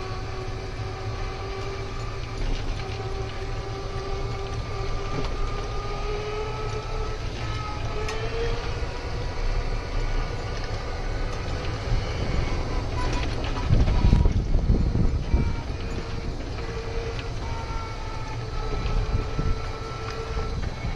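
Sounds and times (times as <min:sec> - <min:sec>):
golf cart motor whine: 0:00.0 - 0:20.9
low rumble: 0:02.0 - 0:20.9.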